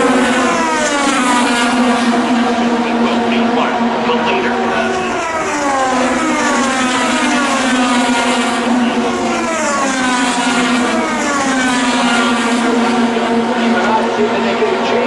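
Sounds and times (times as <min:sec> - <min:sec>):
race cars passing at speed: 0:00.0 - 0:15.0
steady engine drone: 0:00.0 - 0:15.0.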